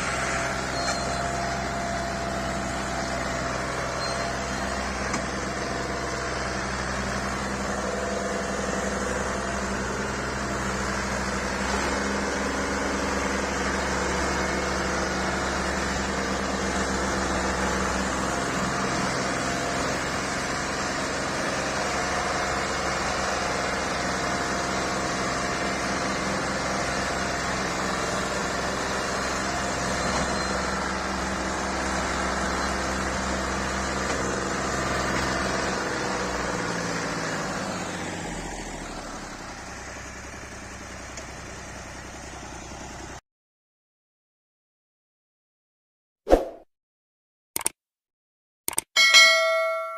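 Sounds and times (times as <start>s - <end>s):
tractor diesel engine running: 0.0s - 43.2s.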